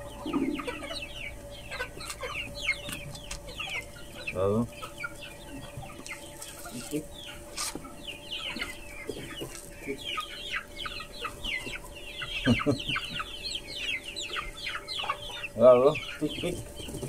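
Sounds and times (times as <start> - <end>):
chicks peeping and clucking: 0.0 - 17.0.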